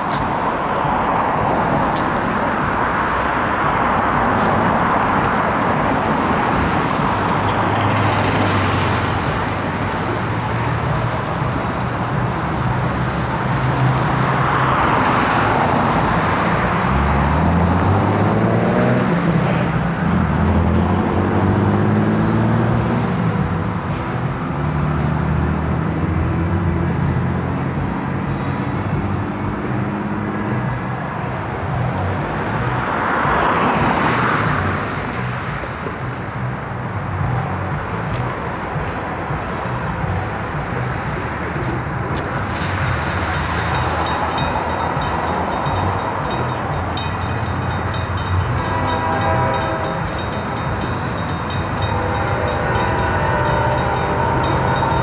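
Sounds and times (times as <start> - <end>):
cars driving past: 0.0 - 55.0.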